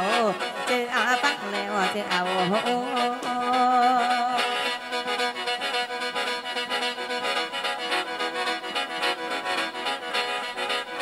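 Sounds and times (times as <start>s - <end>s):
free-reed mouth organ playing chords: 0.0s - 11.0s.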